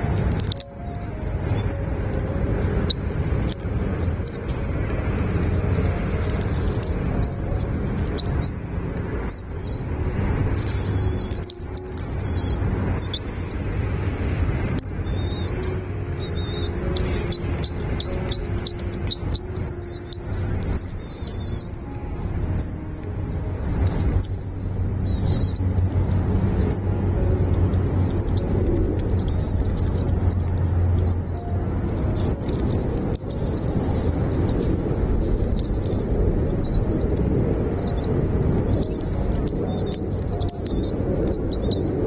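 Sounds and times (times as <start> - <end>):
loud steady low rumble: 0.0 - 42.0
small birds chirping: 0.2 - 1.9, 2.8 - 4.6, 5.5 - 13.7, 14.7 - 34.6, 37.8 - 41.9.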